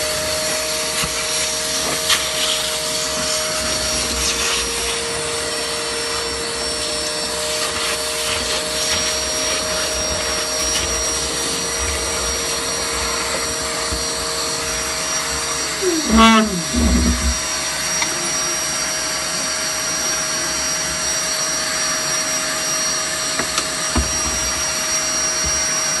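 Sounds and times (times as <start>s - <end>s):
router spindle whine: 0.0s - 26.0s.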